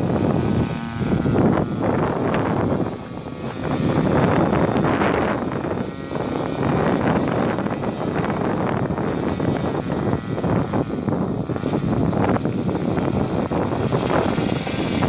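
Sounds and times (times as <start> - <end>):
faint high whine: 0.0 - 15.0
wind buffeting microphone: 0.0 - 15.0.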